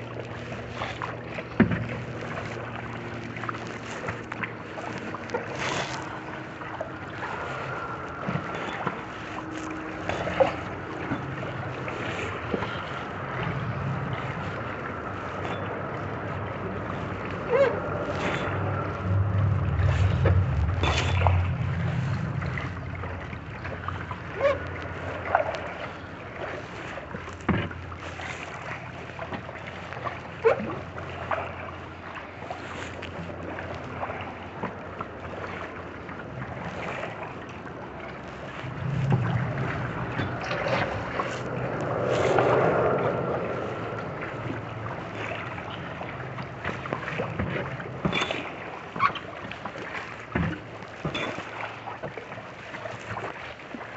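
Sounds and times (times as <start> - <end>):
paddle strokes splashing: 0.0 - 53.9
water sloshing against hull: 0.0 - 53.9
wind rumbling on microphone: 0.0 - 53.9.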